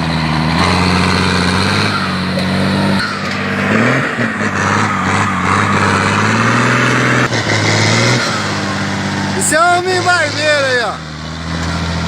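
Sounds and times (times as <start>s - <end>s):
truck engine under load: 0.0s - 12.0s.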